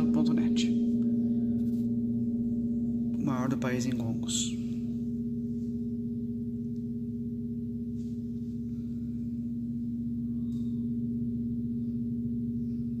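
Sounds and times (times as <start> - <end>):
gong ringing deep hum: 0.0 - 13.0.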